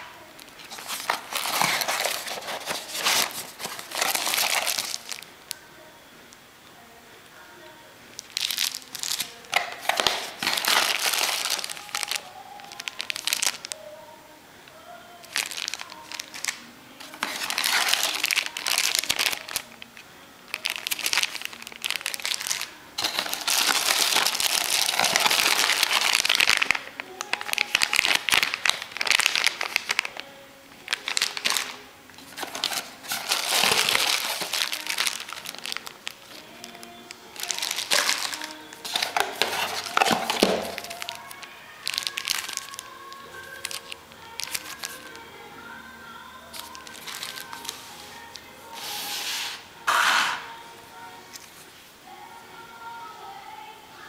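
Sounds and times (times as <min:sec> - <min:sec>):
plastic bags crinkling: 0:00.0 - 0:05.6, 0:08.2 - 0:13.8, 0:15.2 - 0:45.2, 0:46.5 - 0:49.3.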